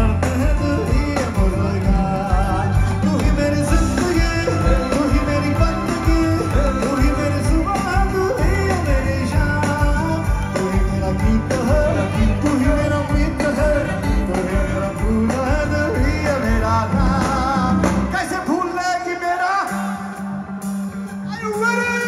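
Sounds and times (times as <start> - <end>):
drums and bass beat: 0.0 - 22.0
live band through pa: 0.0 - 22.0.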